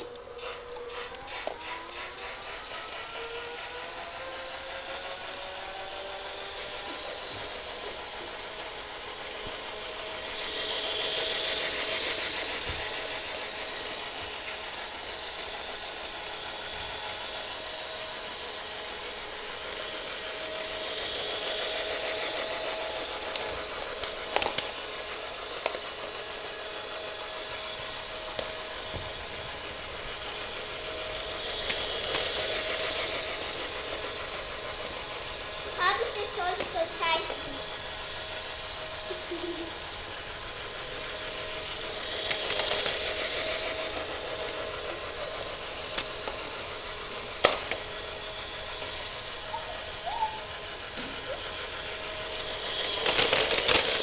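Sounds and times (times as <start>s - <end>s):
toy train motor whining: 0.0s - 54.0s.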